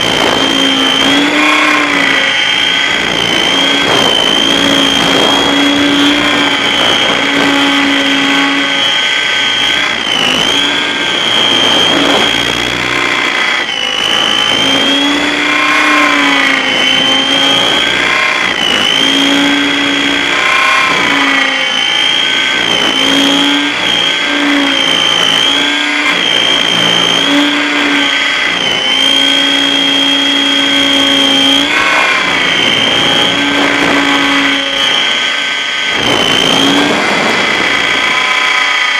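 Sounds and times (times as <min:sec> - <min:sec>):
model aircraft motor whining: 0:00.0 - 0:38.9.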